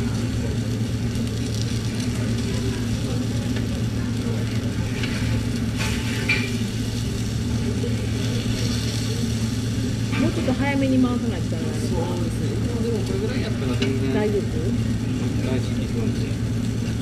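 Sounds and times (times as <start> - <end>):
batter sizzling on griddle: 0.0 - 17.0
steady low hum: 0.0 - 17.0.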